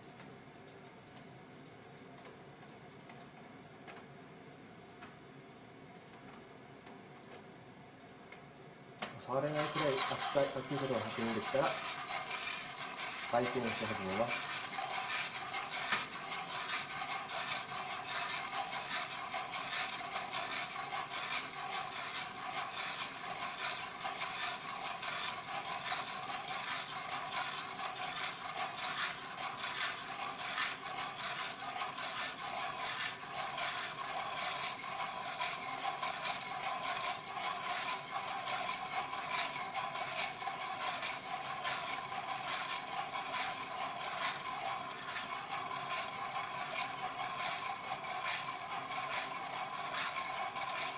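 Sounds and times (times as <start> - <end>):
coffee beans rattling in roaster: 9.1 - 50.9.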